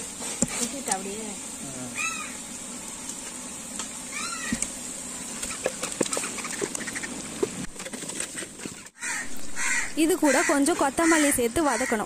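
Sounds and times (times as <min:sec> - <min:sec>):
pot sizzling and steaming: 0:00.0 - 0:12.0.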